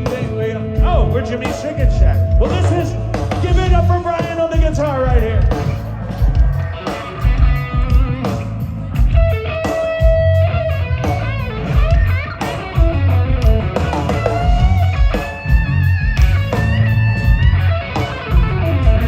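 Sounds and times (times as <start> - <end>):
bass guitar: 0.0 - 19.0
drums: 0.0 - 19.0
electric guitar solo: 0.0 - 19.0.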